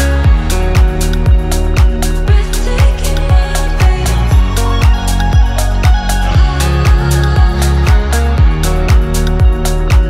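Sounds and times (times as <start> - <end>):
held bass notes: 0.0 - 10.0
kick drum beat: 0.0 - 10.0.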